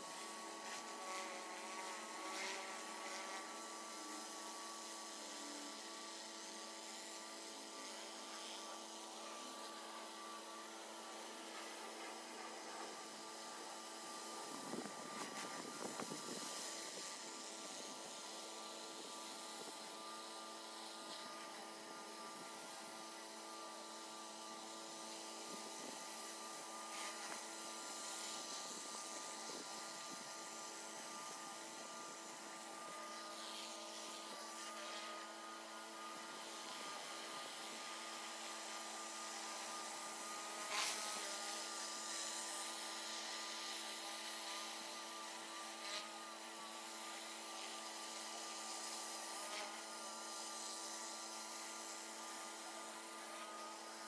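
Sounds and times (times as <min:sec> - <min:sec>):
pressure washer running: 0:00.0 - 0:54.0.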